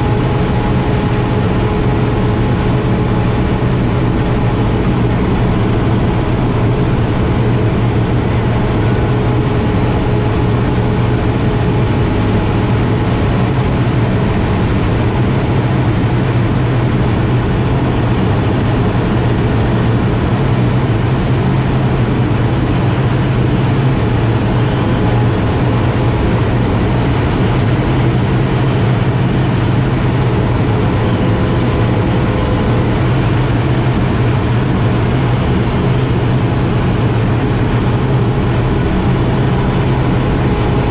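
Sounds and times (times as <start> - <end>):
turboprop engine drone in cockpit: 0.0 - 40.9.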